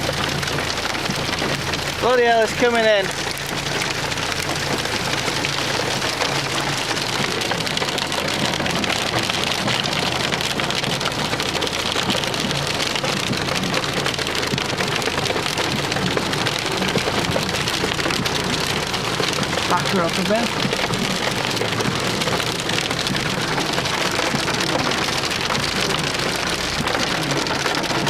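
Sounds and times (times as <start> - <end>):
hail drumming on car body: 0.0 - 28.0.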